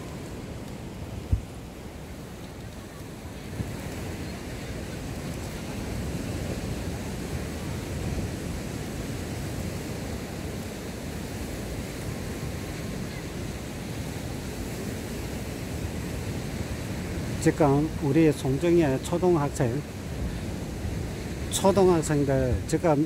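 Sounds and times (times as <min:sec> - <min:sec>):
sea surf rushing: 0:00.0 - 0:23.0
wind buffeting microphone: 0:00.0 - 0:23.0.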